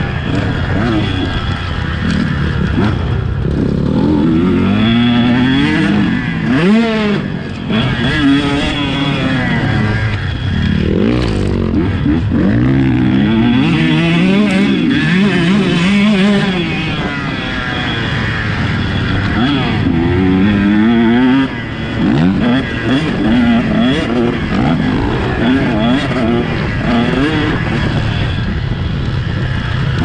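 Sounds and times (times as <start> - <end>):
motocross engine revving: 0.0 - 30.0.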